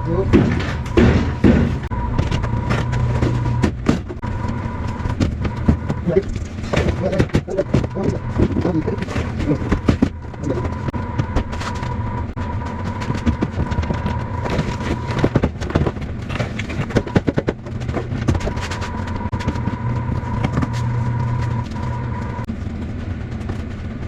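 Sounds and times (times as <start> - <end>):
knocks and clatter: 0.0 - 24.0
motor humming and whining: 0.0 - 24.0.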